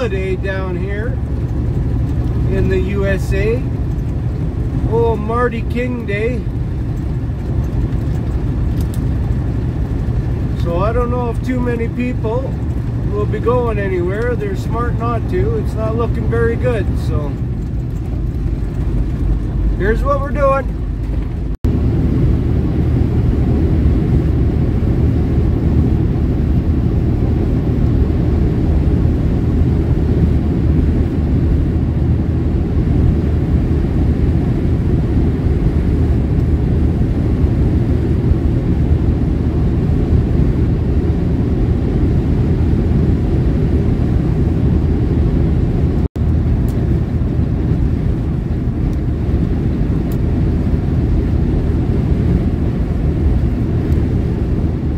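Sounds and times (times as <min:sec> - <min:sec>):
truck engine and tyre drone: 0:00.0 - 0:54.9.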